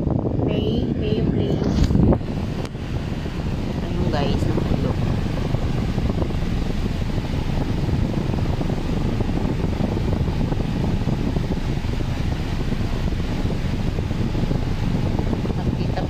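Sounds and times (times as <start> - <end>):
rushing air noise: 0.0 - 16.0
wind buffeting microphone: 0.0 - 16.0.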